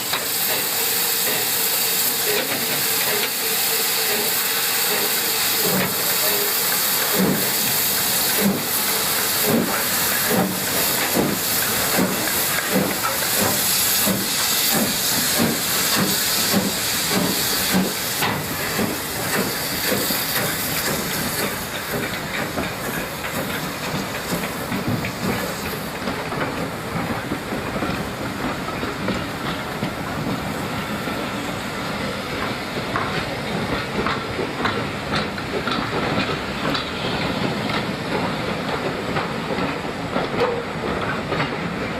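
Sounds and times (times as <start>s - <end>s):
hiss of steam: 0.0s - 41.9s
steam locomotive exhaust beating: 0.0s - 41.9s
train wheels clicking over rail joints: 0.0s - 41.9s.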